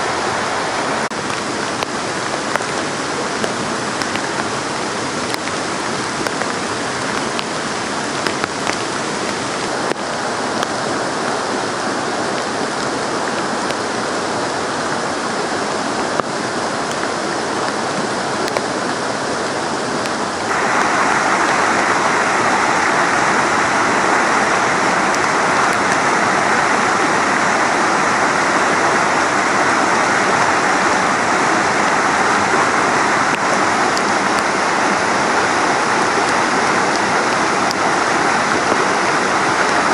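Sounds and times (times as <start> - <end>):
mountain river rushing: 0.0 - 39.9.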